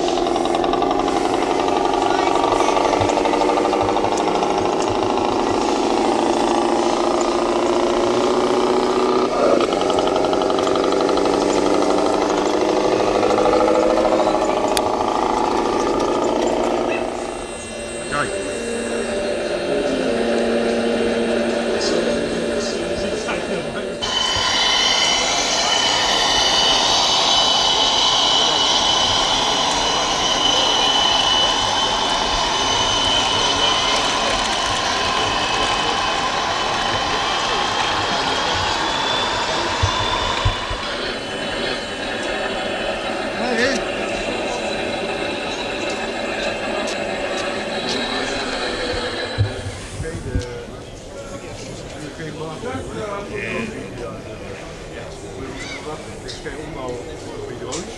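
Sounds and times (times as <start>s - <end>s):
diesel engine sound from small speaker: 0.0s - 57.9s
toy truck motor whine: 0.0s - 57.9s.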